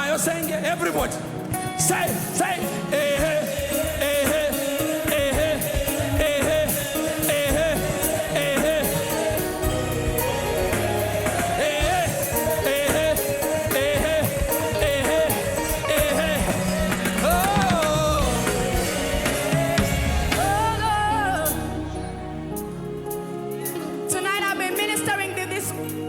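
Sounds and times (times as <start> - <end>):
drums: 0.0 - 25.1
voices singing: 0.0 - 26.0
bass: 3.0 - 24.3.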